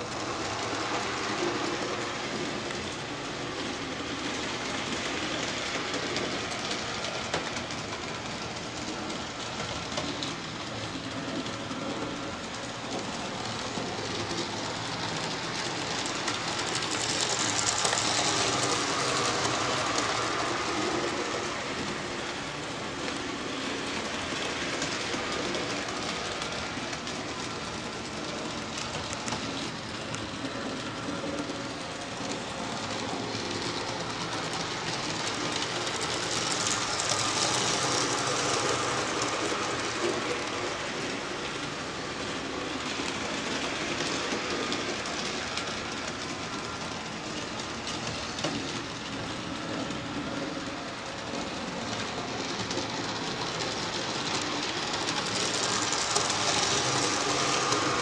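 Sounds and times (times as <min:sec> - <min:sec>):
model train wheels rattling: 0:00.0 - 0:58.0.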